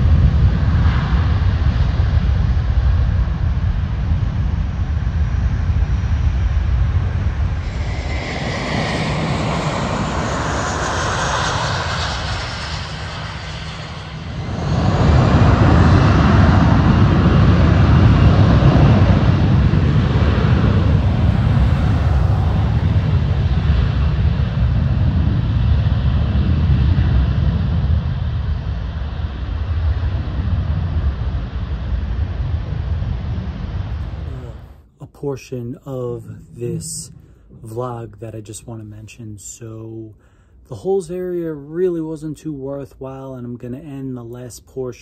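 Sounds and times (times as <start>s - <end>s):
jet aircraft engine: 0.0s - 34.8s, 35.9s - 37.8s.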